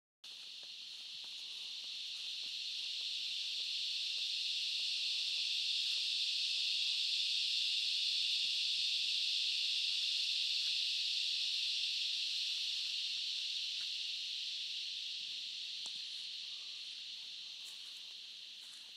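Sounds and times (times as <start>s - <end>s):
cicadas chorusing: 0.2s - 18.9s.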